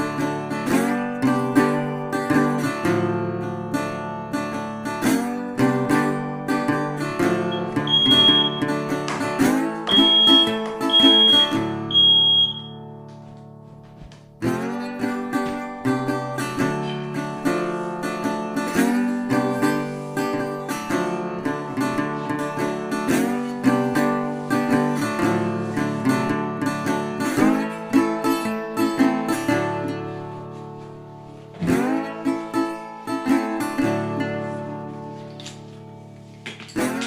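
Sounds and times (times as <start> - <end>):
acoustic guitar music: 0.0 - 37.0.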